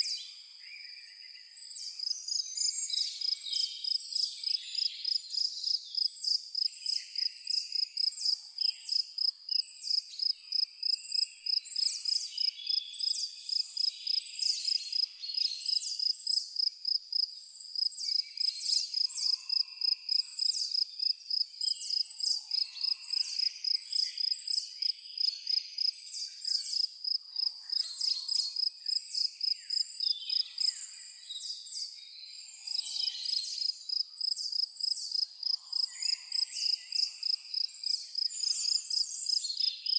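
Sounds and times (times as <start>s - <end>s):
insect chirping: 2.0s - 31.2s, 33.0s - 39.9s.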